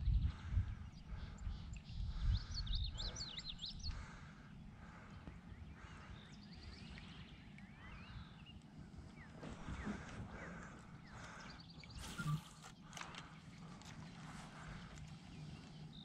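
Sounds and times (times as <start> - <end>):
songbirds singing and calling: 0.0 - 16.0.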